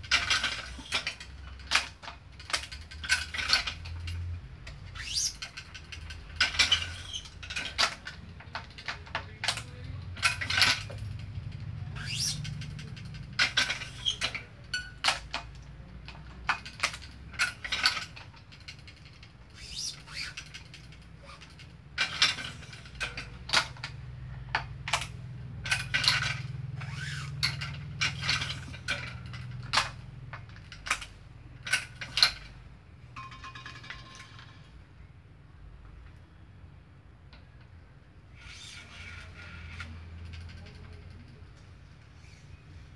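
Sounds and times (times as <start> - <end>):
stringing machine clicks and ratcheting: 0.0 - 34.8, 37.3 - 42.3.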